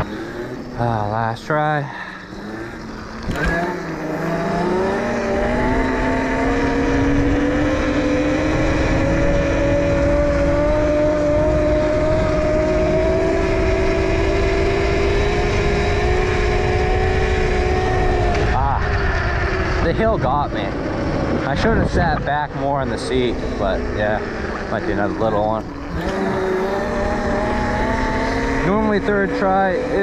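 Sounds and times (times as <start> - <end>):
electric motor whining: 0.0 - 30.0.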